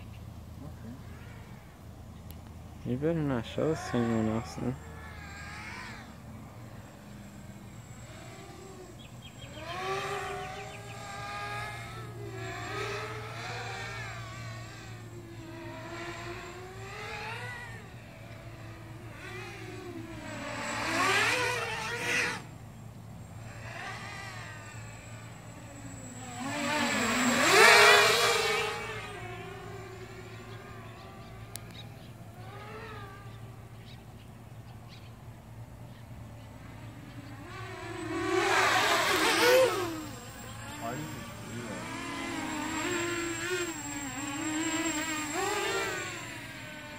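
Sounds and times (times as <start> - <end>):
drone propellers whining: 0.0 - 46.9.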